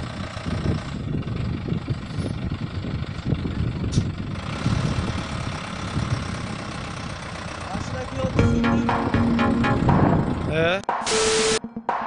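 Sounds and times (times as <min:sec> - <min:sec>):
truck diesel engine rumbling: 0:00.0 - 0:10.7.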